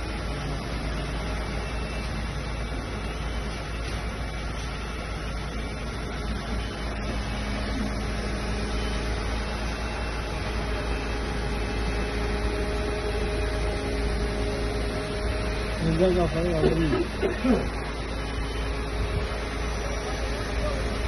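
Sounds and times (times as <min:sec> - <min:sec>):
diesel engine and hydraulics drone: 0:00.0 - 0:21.0
faint steady whine: 0:00.0 - 0:21.0.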